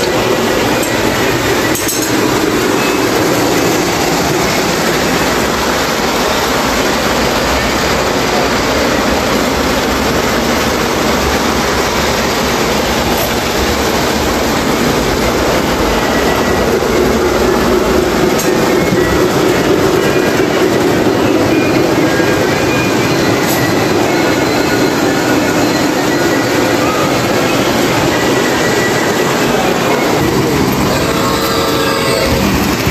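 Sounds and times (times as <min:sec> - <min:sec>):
model trains running on track: 0:00.0 - 0:32.9.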